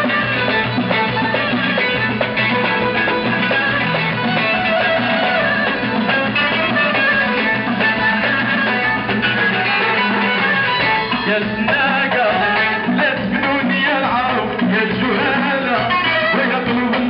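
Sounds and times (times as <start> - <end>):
live band playing: 0.0 - 17.0
plucked string instruments: 0.0 - 17.0.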